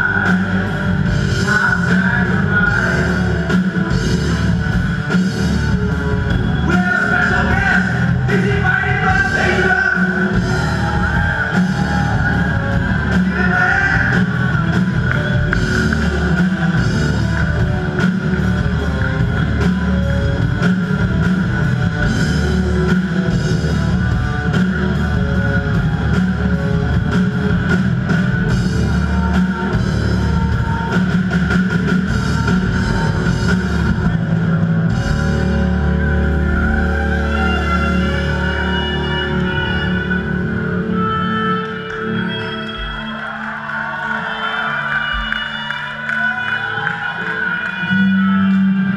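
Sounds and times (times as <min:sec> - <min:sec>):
rock band playing loudly: 0:00.0 - 0:48.9.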